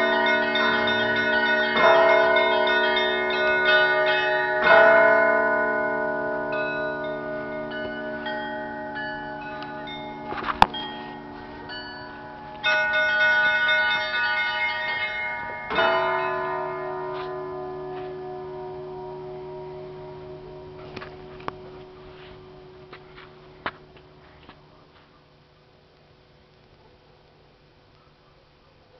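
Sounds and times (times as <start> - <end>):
deep bell strike humming: 0.0 - 24.3
small bells chord: 0.0 - 24.3
church bells ringing: 0.0 - 24.6.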